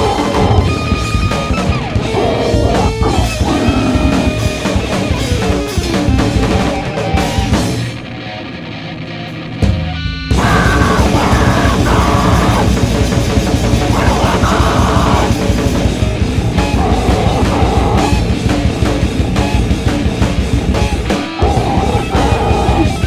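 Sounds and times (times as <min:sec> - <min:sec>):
distorted electric guitar riffing: 0:00.0 - 0:23.0
heavy metal band playing: 0:00.0 - 0:23.0.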